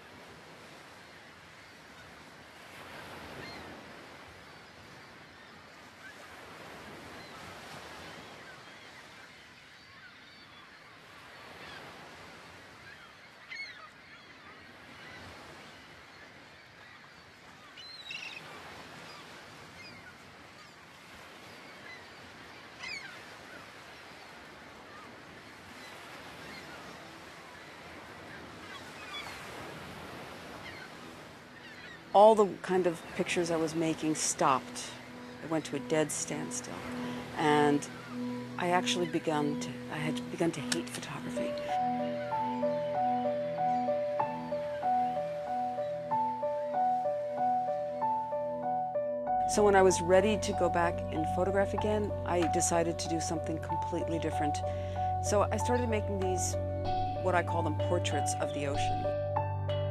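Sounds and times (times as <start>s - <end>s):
surf washing on a beach: 0.0s - 48.4s.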